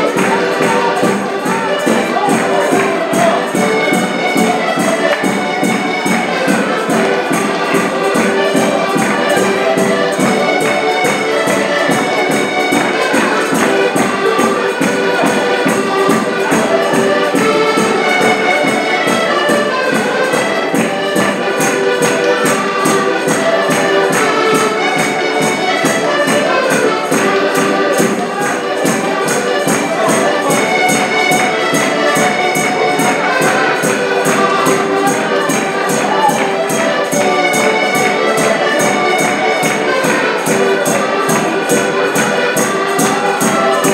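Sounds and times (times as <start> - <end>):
accordions playing folk tune: 0.0 - 43.9.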